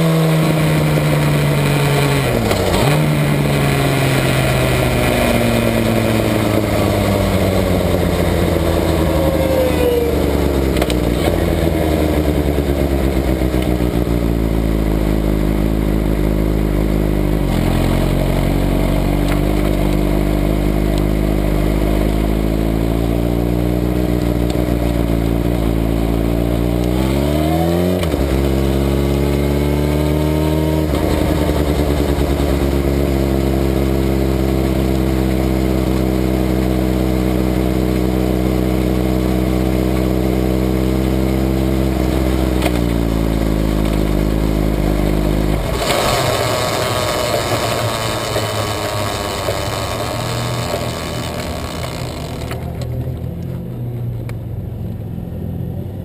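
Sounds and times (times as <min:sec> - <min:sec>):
motorcycle engine at low revs: 0:00.0 - 0:56.0.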